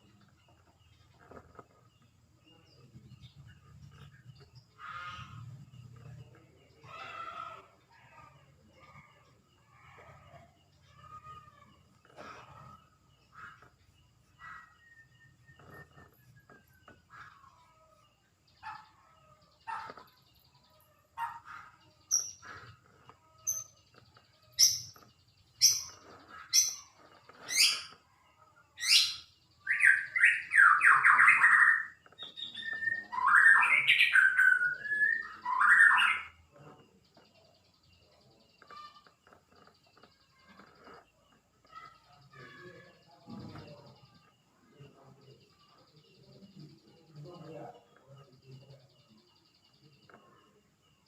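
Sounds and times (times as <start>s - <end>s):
bird chirping and warbling: 0.0s - 51.0s.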